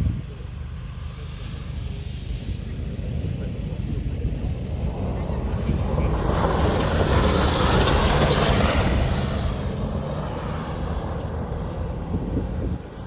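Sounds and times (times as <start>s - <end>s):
race truck rushing past: 1.3s - 13.0s.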